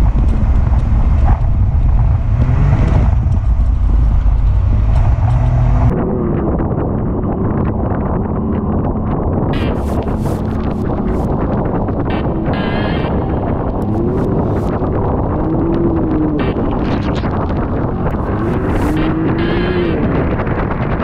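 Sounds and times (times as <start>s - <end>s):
off-road vehicle engine under throttle: 0.0s - 21.0s
wind buffeting microphone: 0.0s - 21.0s.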